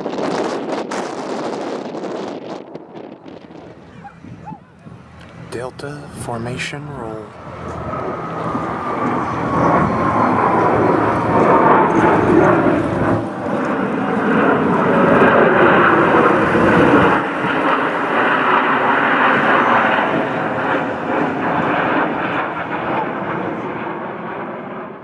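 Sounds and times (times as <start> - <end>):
jet engines flying overhead: 0.0 - 25.0.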